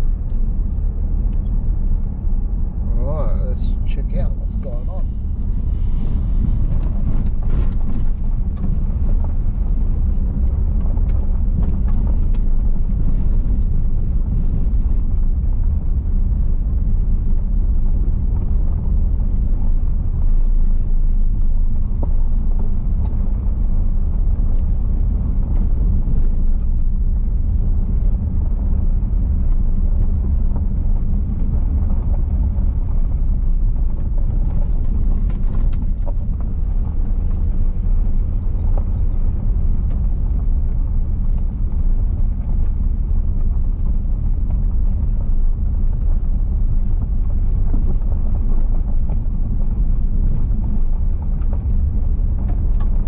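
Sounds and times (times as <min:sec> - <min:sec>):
car road noise on gravel: 0:00.0 - 0:53.0.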